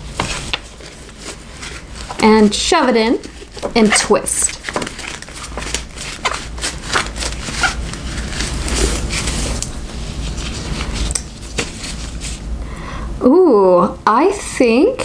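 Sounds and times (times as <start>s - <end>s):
washcloth rubbing and scraping: 0.0s - 12.5s.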